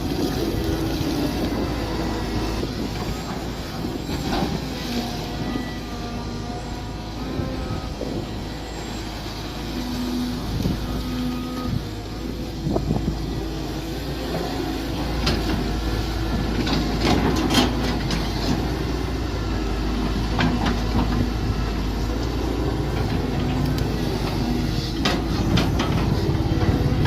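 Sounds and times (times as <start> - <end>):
mini excavator engine running: 0.0 - 27.0.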